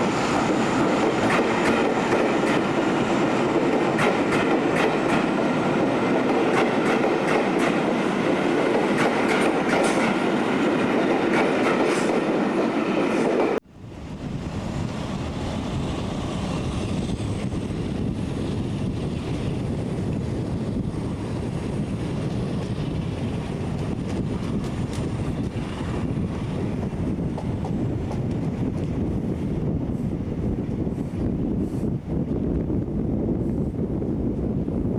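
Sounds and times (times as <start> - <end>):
train clickety-clack on rails: 0.0 - 13.6, 14.4 - 34.9.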